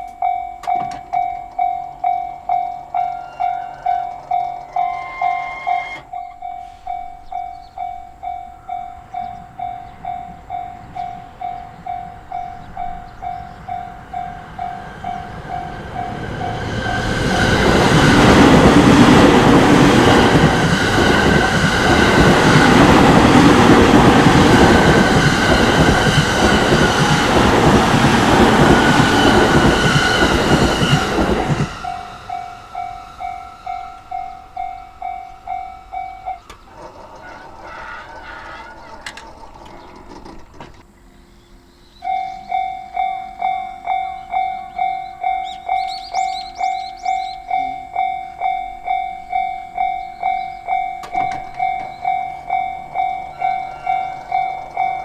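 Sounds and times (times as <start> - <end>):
level-crossing warning bell: 0.0 - 40.4, 42.0 - 55.0
train passing with wheel clatter: 0.0 - 55.0.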